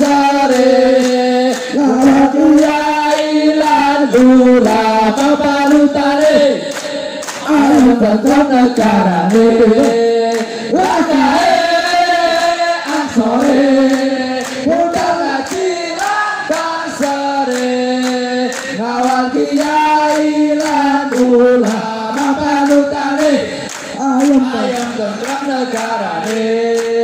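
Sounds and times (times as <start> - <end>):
hand claps in time: 0.0 - 27.0
men singing in unison: 0.0 - 27.0.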